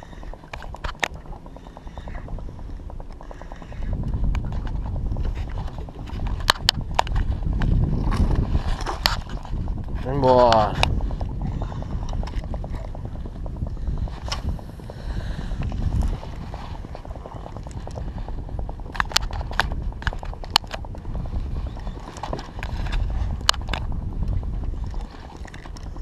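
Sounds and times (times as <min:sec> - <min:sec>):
fishing reel gears clicking: 0:00.0 - 0:26.0
water: 0:00.0 - 0:26.0
wind: 0:00.0 - 0:26.0.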